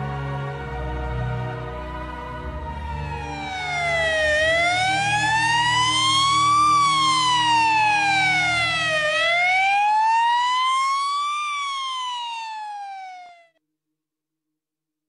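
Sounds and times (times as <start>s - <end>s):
ambulance siren wailing: 0.0s - 13.6s.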